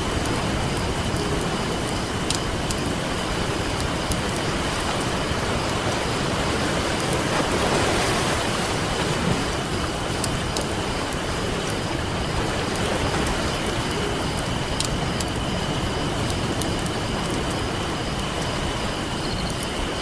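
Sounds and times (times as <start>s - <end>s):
campfire crackling: 0.0s - 20.0s
ocean surf washing on a beach: 0.0s - 20.0s.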